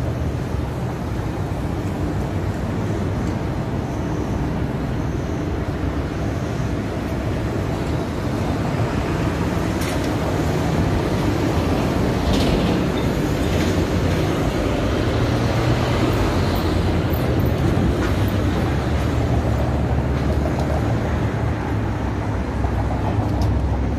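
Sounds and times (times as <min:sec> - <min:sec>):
street traffic rumbling: 0:00.0 - 0:23.9
streetcar rolling: 0:00.0 - 0:23.9.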